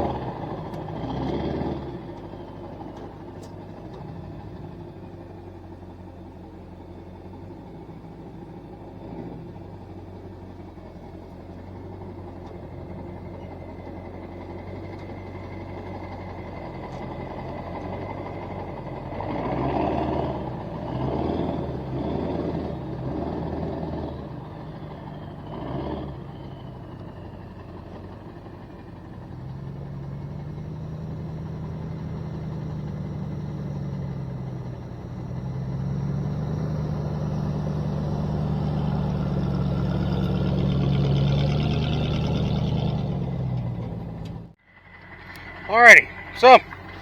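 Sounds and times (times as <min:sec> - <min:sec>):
truck engine climbing: 0:00.0 - 0:47.0.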